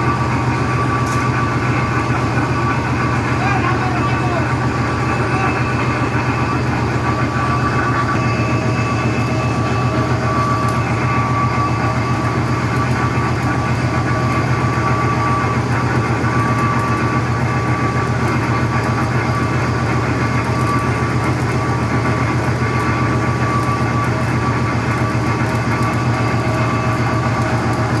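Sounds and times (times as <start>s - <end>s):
diesel engine running under load: 0.0s - 28.0s
faint steady whine: 0.0s - 28.0s.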